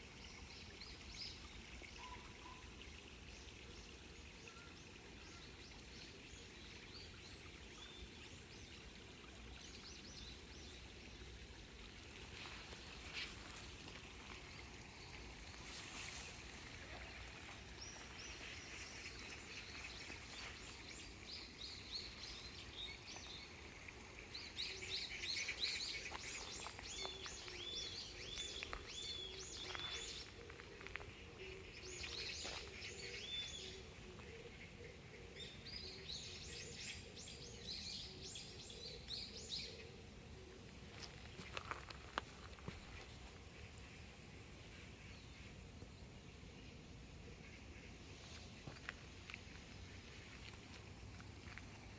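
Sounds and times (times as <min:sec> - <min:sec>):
small birds chirping and trilling: 0:00.0 - 0:46.8.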